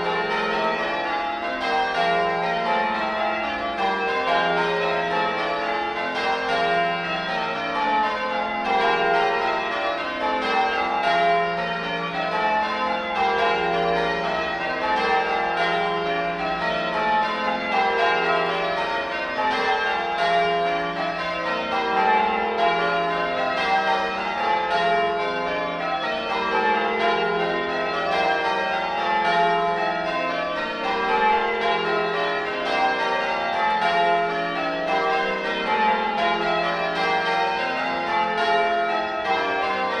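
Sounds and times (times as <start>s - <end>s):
church bells ringing: 0.0s - 40.0s.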